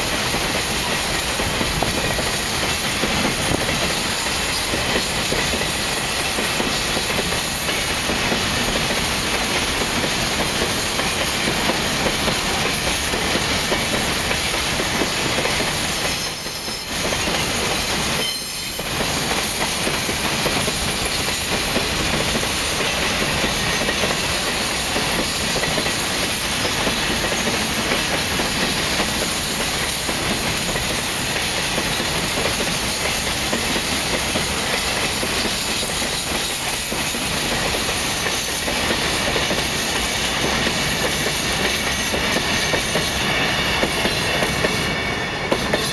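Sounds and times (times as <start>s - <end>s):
freight train wheels rumbling on rails: 0.0s - 45.9s.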